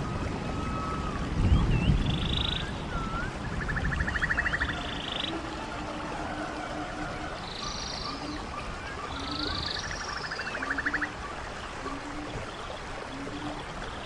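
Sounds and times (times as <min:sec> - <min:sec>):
bird whistles and buzzy trills: 0:00.0 - 0:14.0
running stream water: 0:00.0 - 0:14.0.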